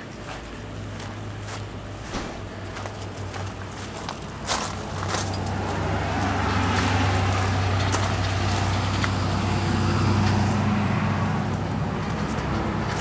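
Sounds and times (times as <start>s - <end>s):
vehicle engine rumbling: 0.0s - 13.0s
higher engine tone: 0.6s - 13.0s.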